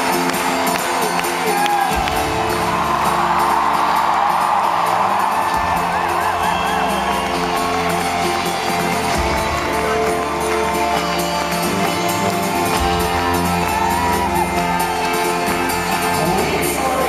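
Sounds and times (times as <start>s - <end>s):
crowd shouting and whooping: 0.0s - 17.0s
folk-rock band playing live: 0.0s - 17.0s.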